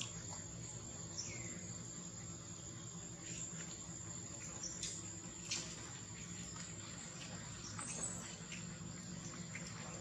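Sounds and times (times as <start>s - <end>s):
high-pitched insect drone: 0.0s - 9.6s.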